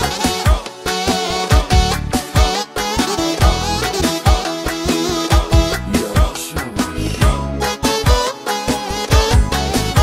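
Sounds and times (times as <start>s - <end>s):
driving drum beat: 0.0s - 8.3s
lead melody: 0.0s - 10.0s.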